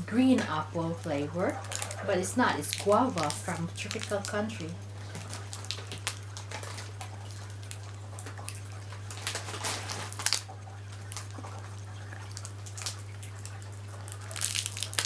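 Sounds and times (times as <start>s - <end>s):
low electrical hum: 0.0s - 15.0s
wrapper crinkling: 0.0s - 15.0s.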